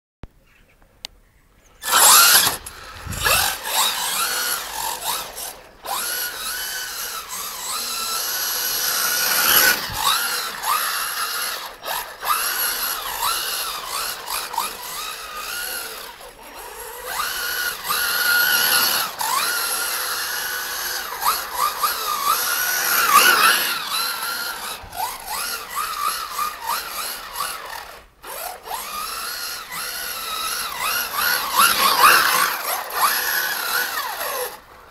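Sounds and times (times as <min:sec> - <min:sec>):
electric motor whining: 0:01.8 - 0:34.9.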